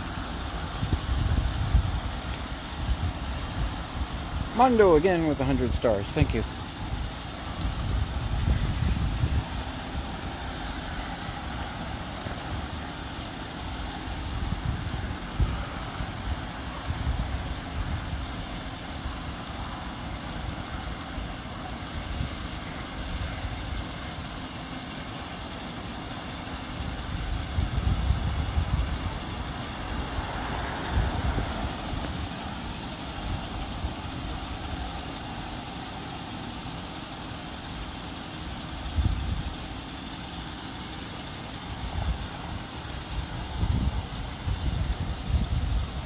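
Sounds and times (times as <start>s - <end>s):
traffic noise: 0.0s - 46.0s
vehicle engine rumble: 0.0s - 46.0s.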